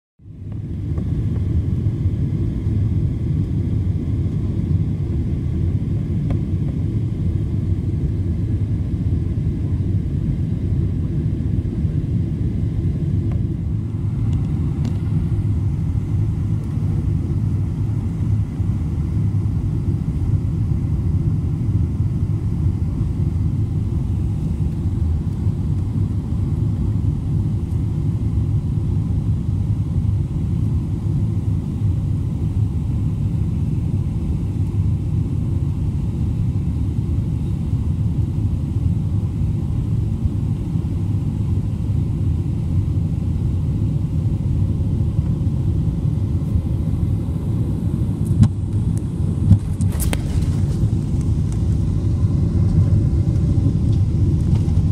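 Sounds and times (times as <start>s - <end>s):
airliner engine rumble in cabin: 0.2s - 54.9s.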